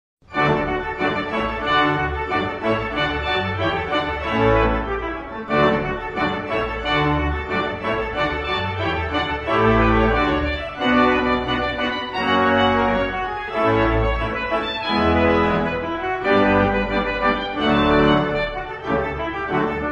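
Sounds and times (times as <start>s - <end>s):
organ chords: 0.3s - 19.9s.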